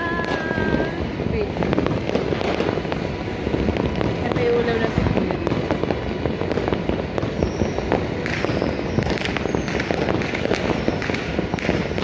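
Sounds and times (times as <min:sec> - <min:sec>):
fireworks crackling and popping: 0:00.0 - 0:12.0
low rumble: 0:00.0 - 0:12.0.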